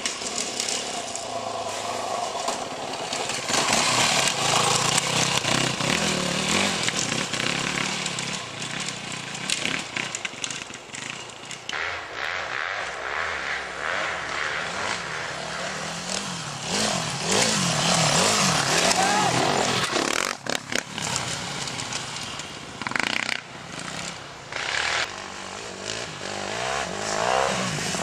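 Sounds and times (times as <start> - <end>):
off-road motorcycle engines revving: 0.0 - 28.0.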